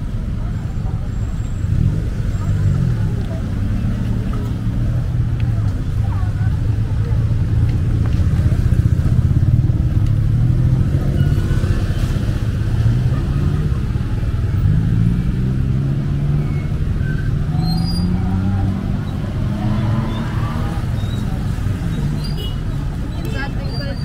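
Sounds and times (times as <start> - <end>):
car and motorcycle engines running: 0.0 - 24.0.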